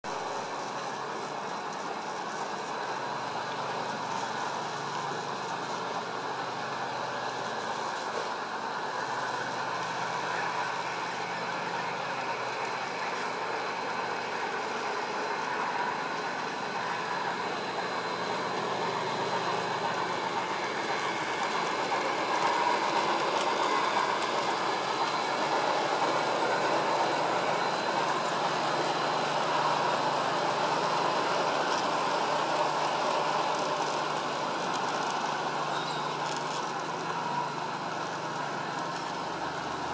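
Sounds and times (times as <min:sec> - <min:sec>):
model train wheels rumbling on rails: 0:00.1 - 0:39.9.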